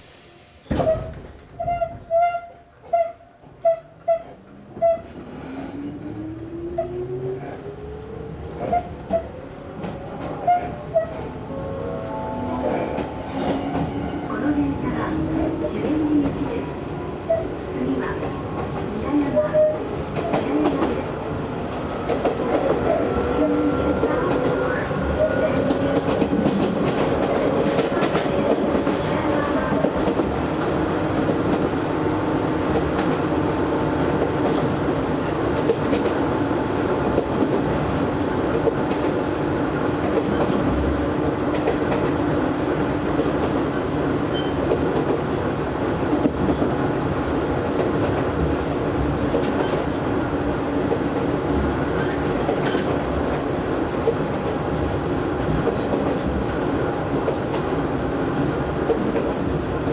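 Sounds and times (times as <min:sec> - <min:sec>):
train running noise inside car: 0:00.0 - 0:59.9.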